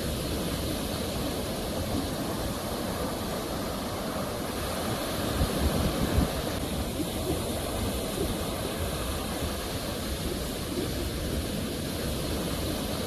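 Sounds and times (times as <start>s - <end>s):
waves washing ashore: 0.0s - 13.0s.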